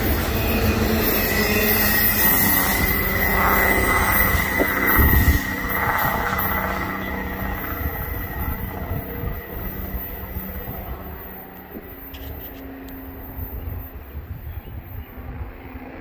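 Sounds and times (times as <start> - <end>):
high wheel squeal: 0.0 - 14.2
freight train rumbling on rails: 0.0 - 16.0.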